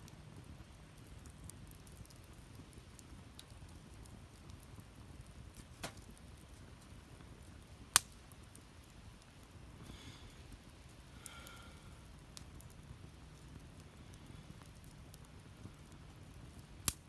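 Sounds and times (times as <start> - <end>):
fire popping: 0.0 - 17.0
firewood crackling: 0.0 - 17.0.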